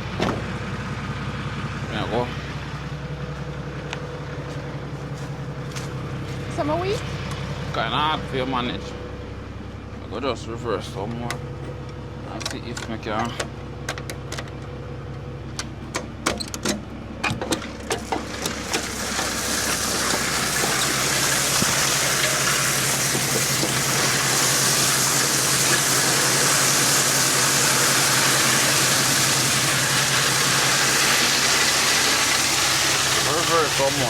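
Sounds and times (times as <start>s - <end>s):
dump truck engine running: 0.0s - 34.0s.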